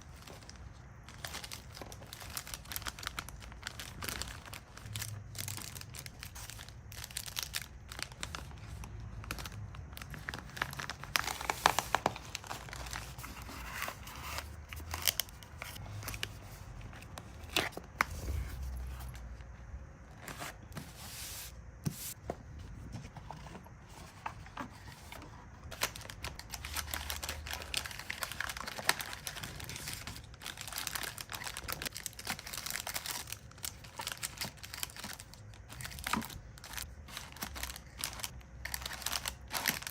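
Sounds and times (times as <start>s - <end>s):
plastic packaging crinkling: 0.1s - 19.2s, 24.2s - 39.9s.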